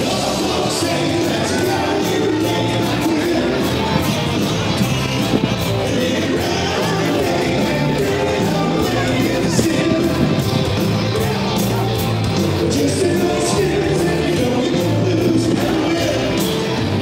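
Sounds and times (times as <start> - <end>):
guitar: 0.0 - 17.0
live rock and roll music: 0.0 - 17.0
person singing: 0.0 - 17.0.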